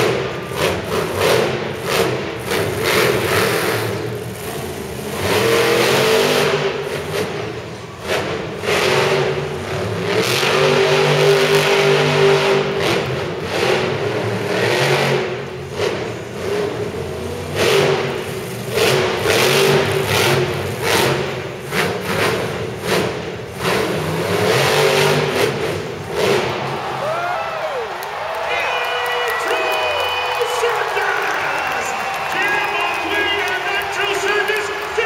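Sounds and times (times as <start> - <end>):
truck engine revving hard: 0.0 - 28.1.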